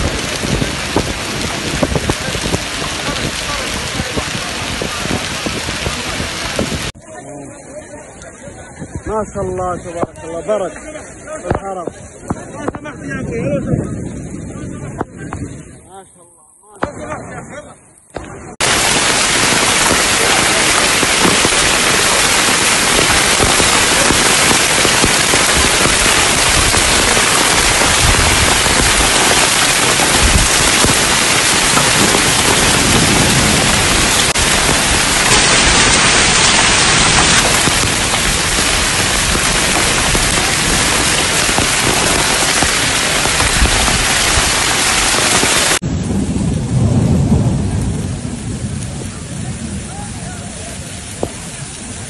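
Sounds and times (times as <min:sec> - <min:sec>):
heavy rain on stone: 0:00.0 - 0:15.8, 0:18.0 - 0:52.0.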